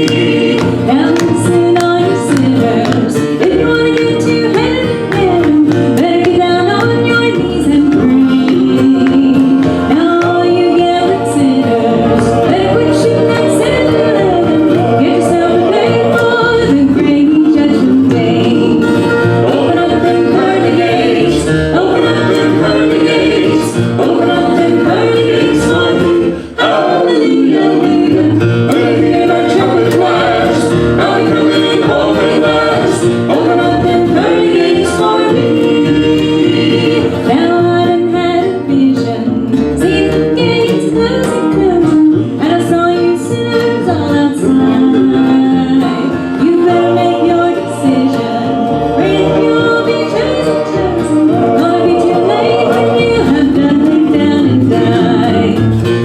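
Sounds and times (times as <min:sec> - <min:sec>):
acoustic guitar: 0:00.0 - 0:56.0
vocal group singing in harmony: 0:00.0 - 0:56.0.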